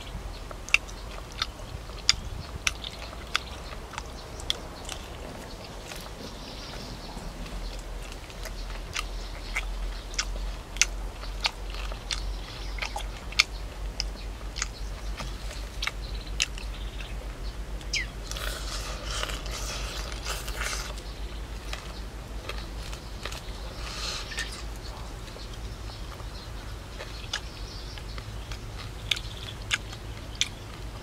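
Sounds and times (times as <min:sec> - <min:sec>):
person chewing crunchy food: 0:00.4 - 0:31.0.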